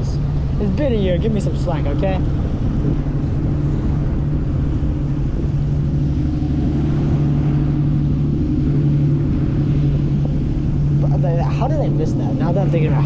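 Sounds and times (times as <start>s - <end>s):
steady engine drone: 0.0s - 13.0s
wind rumble on microphone: 0.0s - 13.0s.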